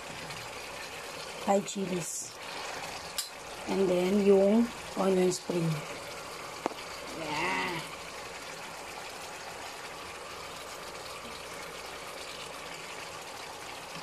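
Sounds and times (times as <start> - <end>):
sauce simmering hiss: 0.0 - 14.0.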